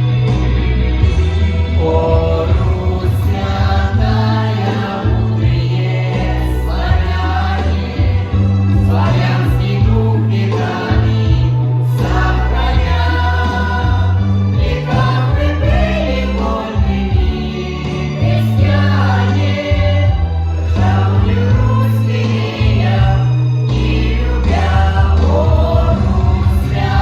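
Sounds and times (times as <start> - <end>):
instrumental accompaniment: 0.0 - 27.0
choir singing: 1.8 - 27.0.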